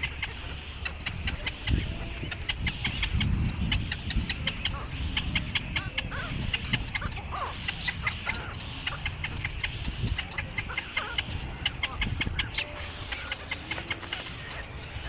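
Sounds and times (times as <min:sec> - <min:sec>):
birds chirping: 0:00.0 - 0:15.0
low gliding bird calls: 0:00.0 - 0:15.0
steady low rumble: 0:00.0 - 0:15.0.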